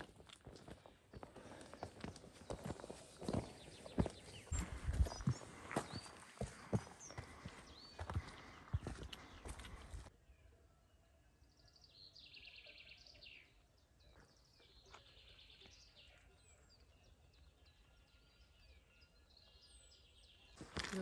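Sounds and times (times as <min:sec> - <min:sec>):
songbirds singing: 0:00.5 - 0:21.0.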